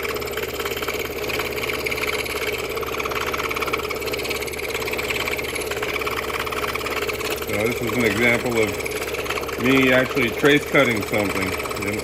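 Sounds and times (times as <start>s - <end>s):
scroll saw cutting plywood: 0.0s - 12.0s.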